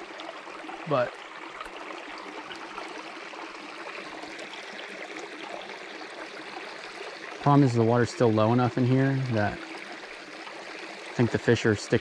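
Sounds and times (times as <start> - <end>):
creek flowing over rocks: 0.0 - 12.0.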